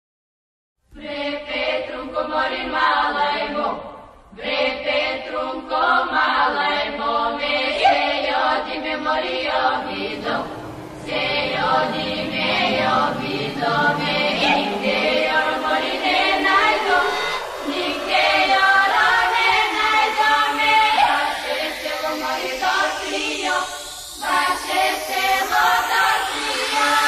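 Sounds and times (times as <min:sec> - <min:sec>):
chant-like choral voices: 0:00.9 - 0:27.0
recorded music: 0:01.1 - 0:27.0.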